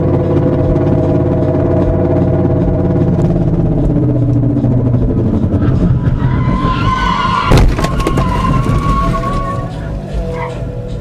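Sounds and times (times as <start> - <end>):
car cabin road and engine noise: 0.0 - 11.0.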